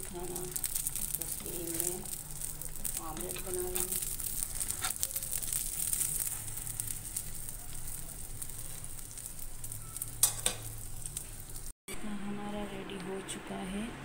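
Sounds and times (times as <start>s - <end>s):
metal spatula on griddle: 0.0s - 11.7s
omelette sizzling in oil: 0.0s - 11.8s.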